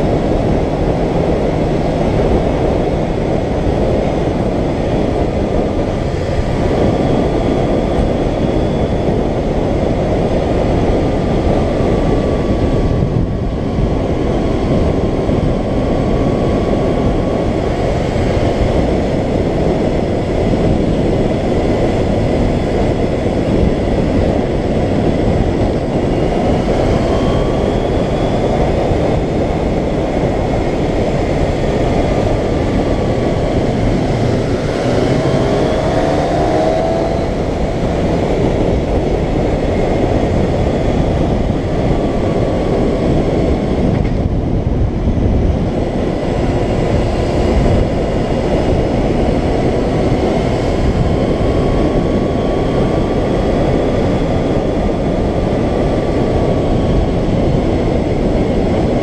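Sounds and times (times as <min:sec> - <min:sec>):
motorcycle engine running: 0:00.0 - 0:59.0
wind rush: 0:00.0 - 0:59.0.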